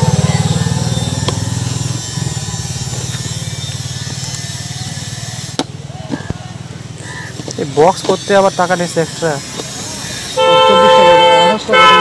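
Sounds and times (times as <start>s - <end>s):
motorbike engine idling: 0.0s - 12.0s.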